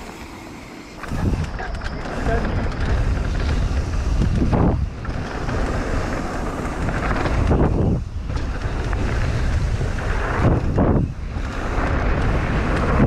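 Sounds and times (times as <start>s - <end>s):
wind rushing over microphone: 1.0s - 13.0s.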